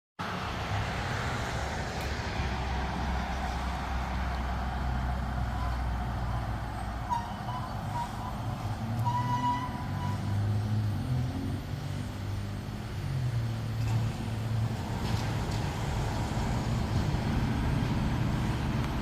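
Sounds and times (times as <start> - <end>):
fire engine running: 0.2 - 19.0.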